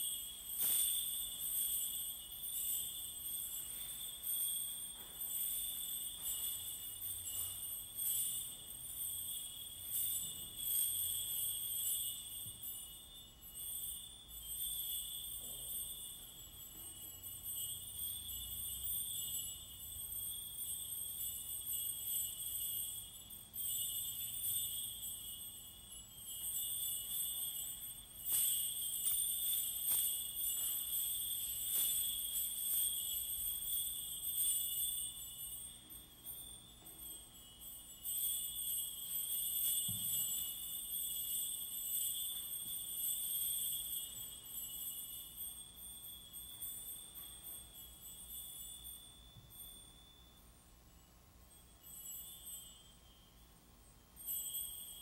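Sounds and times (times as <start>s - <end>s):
metal percussion bell-like ringing: 0.0s - 55.0s.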